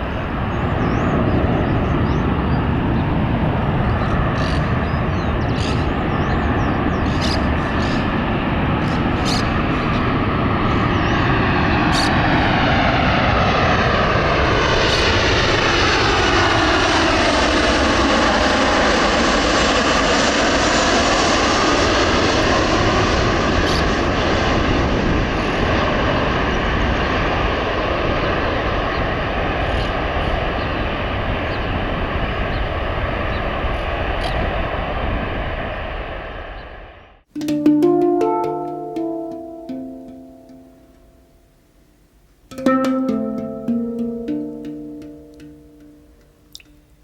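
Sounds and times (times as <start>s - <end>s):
airplane engines passing overhead: 0.0s - 47.0s.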